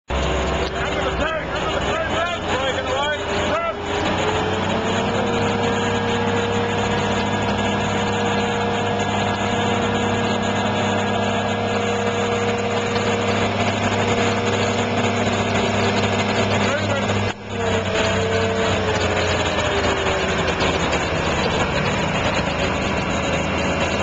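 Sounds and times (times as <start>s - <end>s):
diesel engine running under load: 0.0s - 24.0s
steady whining tone: 0.1s - 24.0s.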